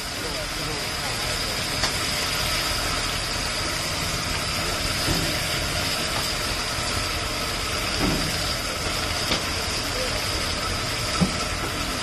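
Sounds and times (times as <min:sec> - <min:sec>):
wok stove roaring: 0:00.0 - 0:12.0.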